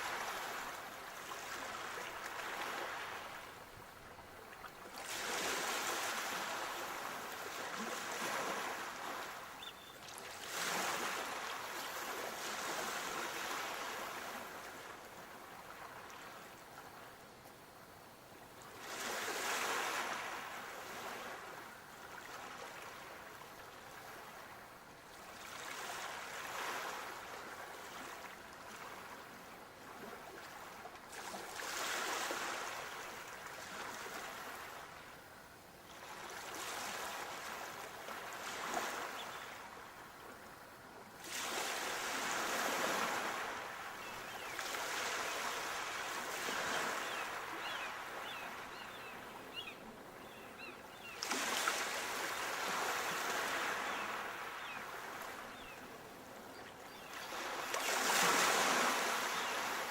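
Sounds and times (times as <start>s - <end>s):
sea waves breaking on shore: 0.0s - 3.8s, 4.4s - 17.1s, 18.6s - 35.2s, 35.9s - 59.9s.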